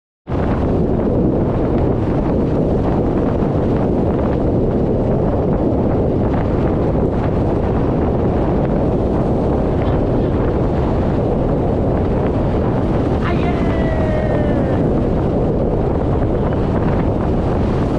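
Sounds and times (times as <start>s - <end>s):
boat engine rumble: 0.3s - 17.9s
water rushing along hulls: 0.3s - 17.9s
wind noise on microphone: 0.3s - 17.9s.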